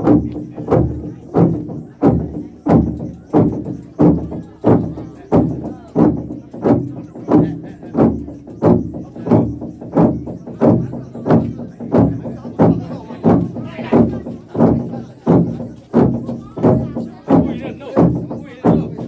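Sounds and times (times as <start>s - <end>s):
log drum beaten with sticks: 0.0s - 19.0s.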